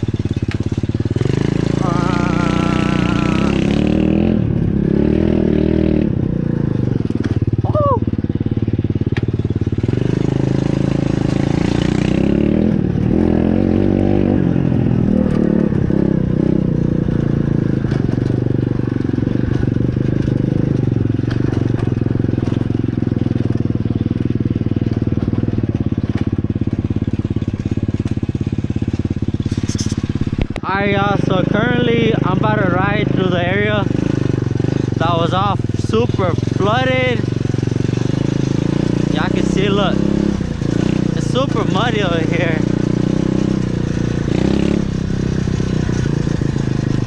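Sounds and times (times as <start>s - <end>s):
small motorbike engine running: 0.0s - 47.0s.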